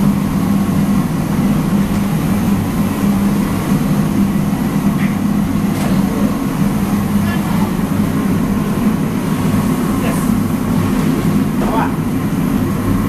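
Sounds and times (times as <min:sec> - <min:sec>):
loud mechanical drone: 0:00.0 - 0:13.0.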